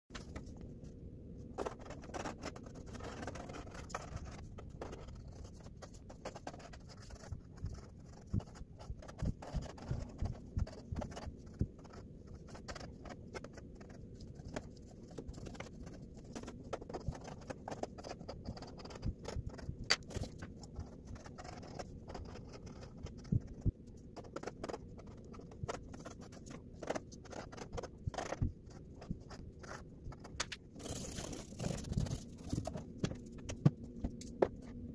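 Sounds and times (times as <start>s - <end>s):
pencil scratching on paper: 1.6s - 34.9s.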